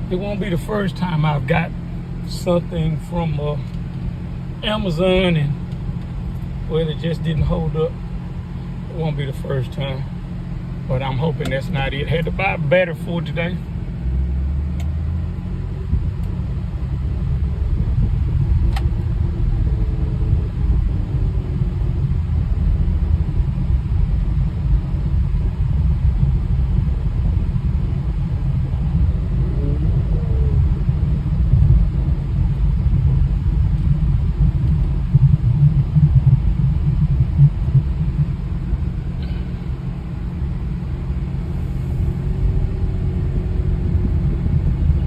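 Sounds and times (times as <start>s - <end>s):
car engine rumble inside cabin: 0.0s - 45.0s.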